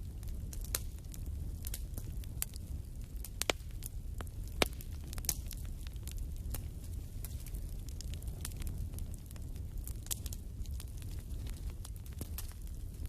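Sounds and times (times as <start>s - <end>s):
fire crackling and popping: 0.0s - 13.0s
wood fire rumbling: 0.0s - 13.0s.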